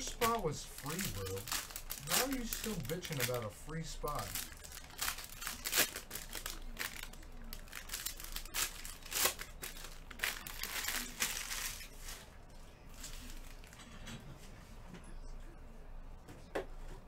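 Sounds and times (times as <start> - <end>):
plastic wrappers crinkling: 0.0 - 13.9.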